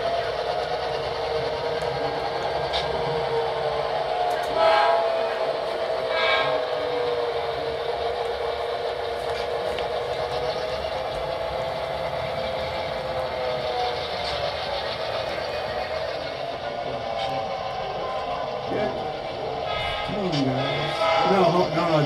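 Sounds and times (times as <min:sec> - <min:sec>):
model locomotive engine sound: 0:00.0 - 0:22.0.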